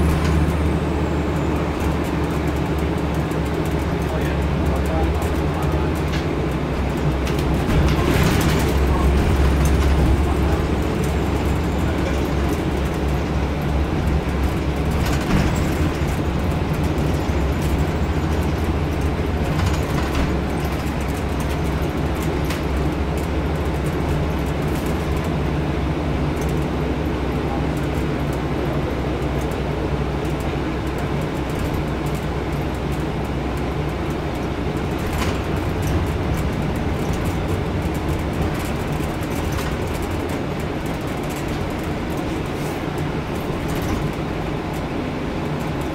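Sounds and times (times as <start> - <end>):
bus engine and road drone: 0.0 - 45.9.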